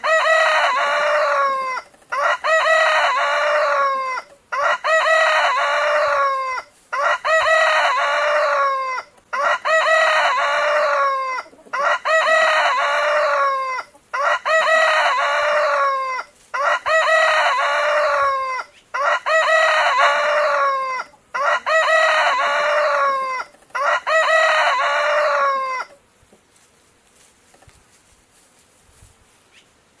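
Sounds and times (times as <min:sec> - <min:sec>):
rooster crowing: 0:00.0 - 0:26.0.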